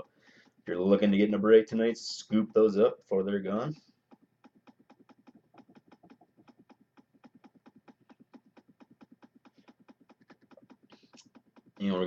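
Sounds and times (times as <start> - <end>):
mouse scroll wheel clicking: 0.0 - 12.0.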